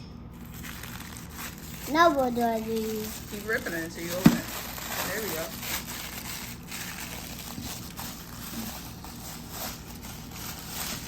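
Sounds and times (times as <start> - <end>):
paper wrapping tearing and crinkling: 0.4 - 11.0.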